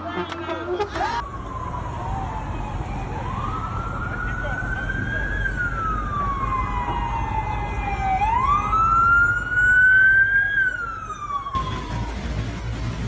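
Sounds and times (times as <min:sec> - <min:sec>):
emergency siren wailing: 0:00.0 - 0:12.8
city traffic rumble: 0:00.0 - 0:13.0.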